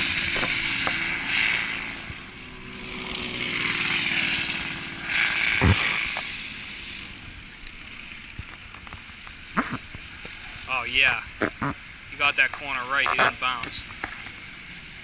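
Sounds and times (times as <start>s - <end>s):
go-kart engines passing: 0.0s - 15.0s.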